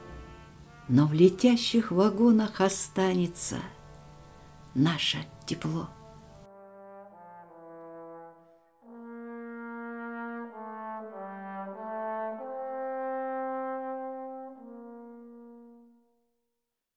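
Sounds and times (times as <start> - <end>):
slow brass chords: 0.0 - 1.6, 3.7 - 16.2.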